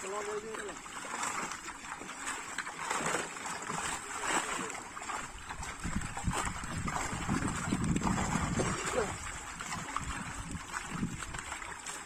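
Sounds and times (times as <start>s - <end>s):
fish thrashing in water: 0.0s - 12.0s.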